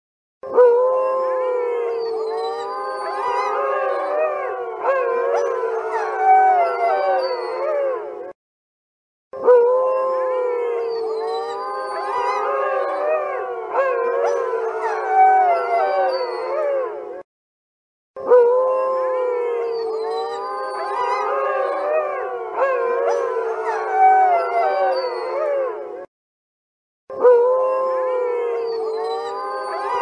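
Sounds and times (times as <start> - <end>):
wolves howling in chorus: 0.4 - 8.4, 9.4 - 17.2, 18.2 - 26.1, 27.1 - 30.0.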